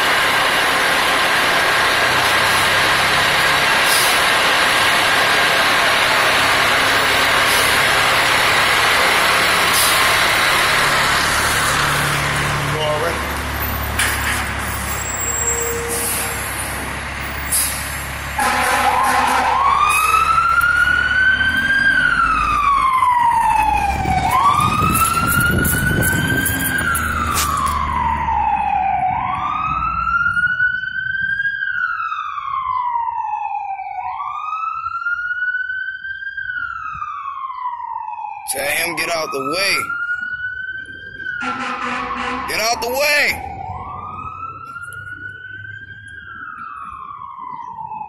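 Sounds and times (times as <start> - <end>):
diesel engine rumbling: 0.0 - 34.2, 35.0 - 48.0
fire truck siren wailing: 0.0 - 48.0.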